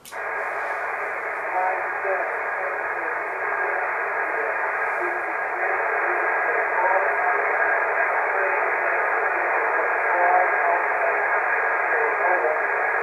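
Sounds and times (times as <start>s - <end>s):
radio static hiss: 0.0s - 13.0s
weak radio voice: 0.0s - 13.0s.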